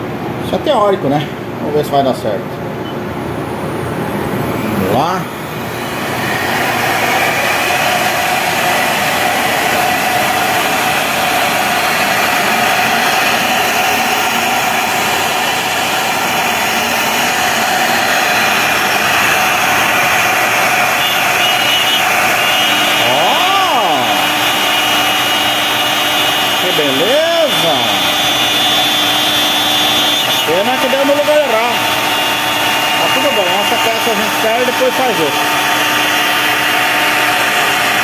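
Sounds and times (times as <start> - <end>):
cnc router spindle whine: 2.8 - 38.0
rising and falling whine: 2.8 - 38.0.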